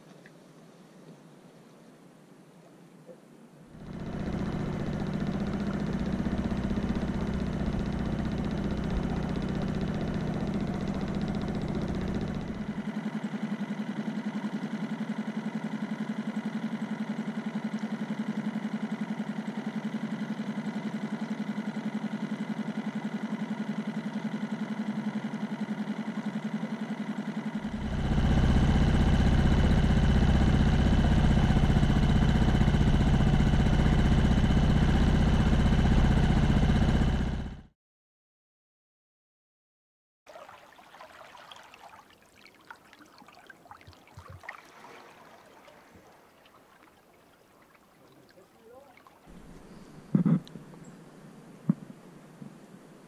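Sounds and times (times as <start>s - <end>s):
small outboard motor running: 3.7s - 37.8s, 40.3s - 53.0s.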